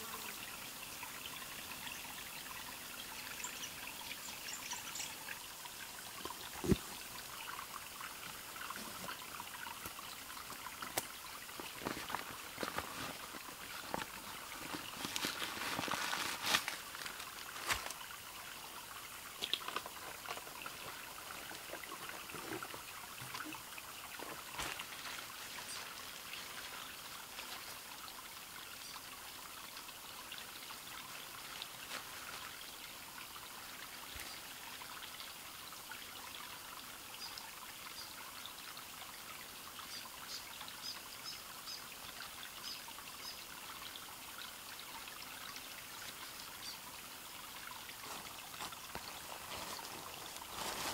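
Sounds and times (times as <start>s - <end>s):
stream trickling: 0.0s - 50.9s.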